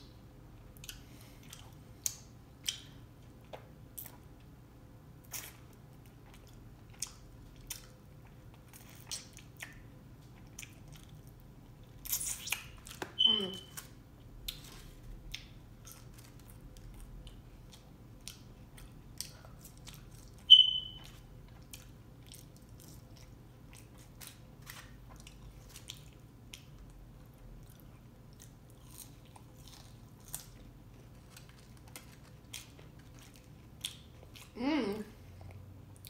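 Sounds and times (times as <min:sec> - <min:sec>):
person chewing fries: 0:00.6 - 0:04.5, 0:05.2 - 0:13.0, 0:13.8 - 0:34.6.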